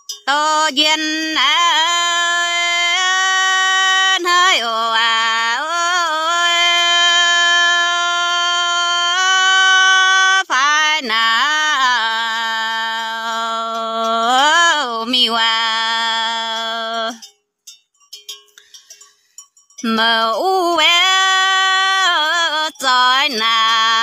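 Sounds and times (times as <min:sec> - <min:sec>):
person singing long held notes: 0:00.3 - 0:17.2, 0:19.8 - 0:24.0.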